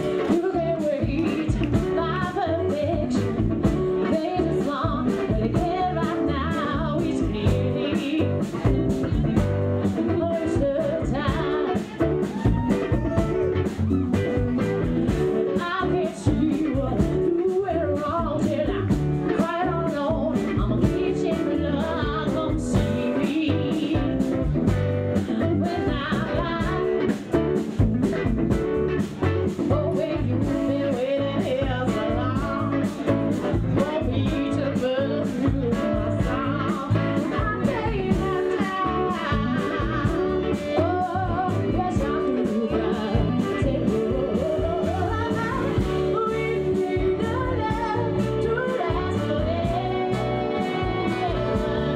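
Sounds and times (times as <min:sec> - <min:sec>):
woman singing into a microphone: 0:00.0 - 0:28.2, 0:28.9 - 0:51.9
bass guitar: 0:00.0 - 0:51.9
drums: 0:00.0 - 0:51.9
electric guitar: 0:00.0 - 0:51.9.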